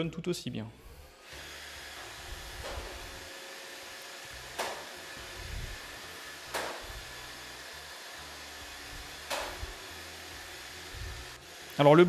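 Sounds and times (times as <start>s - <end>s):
robot vacuum whirring: 0.9s - 12.0s.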